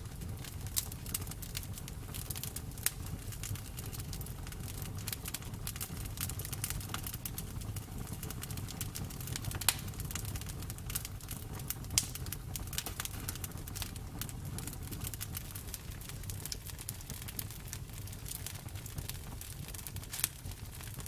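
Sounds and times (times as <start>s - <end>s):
low rumble of flame: 0.0s - 21.0s
wood crackling and popping: 0.0s - 21.0s.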